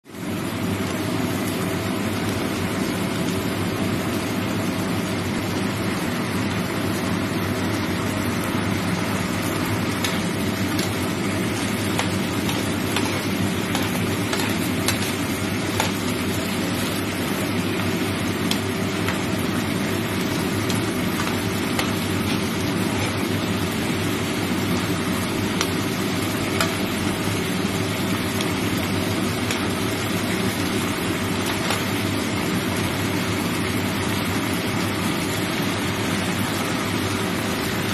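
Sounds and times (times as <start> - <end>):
food sizzling in bubbling sauce: 0.1 - 37.9.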